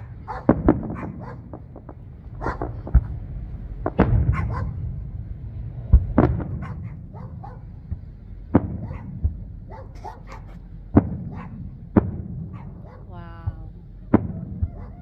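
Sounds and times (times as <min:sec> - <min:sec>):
faint fireworks pops: 0:00.0 - 0:04.8, 0:05.8 - 0:14.9
fireworks bangs: 0:00.0 - 0:15.0
low rumble: 0:00.0 - 0:15.0.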